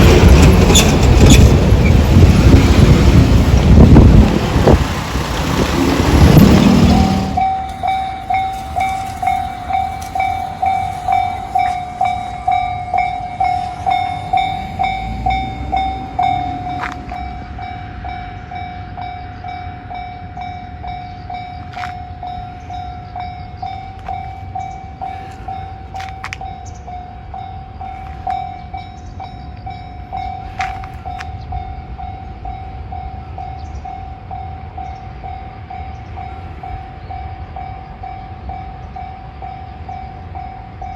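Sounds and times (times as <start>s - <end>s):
level crossing warning bell: 3.2s - 40.9s.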